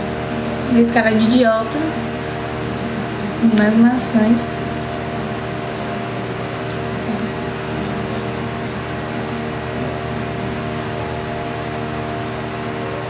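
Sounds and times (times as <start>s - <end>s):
background hum and hiss: 0.0s - 13.0s
held low tones: 0.0s - 13.0s.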